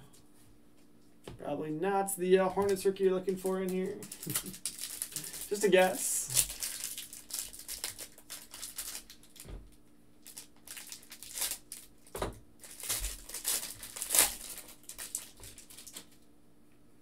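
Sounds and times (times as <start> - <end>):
plastic wrapper crinkling: 2.5 - 16.2.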